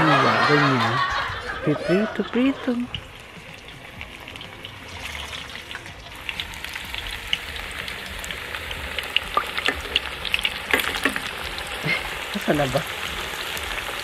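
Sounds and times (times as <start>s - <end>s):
slices frying in hot oil: 1.9s - 14.0s.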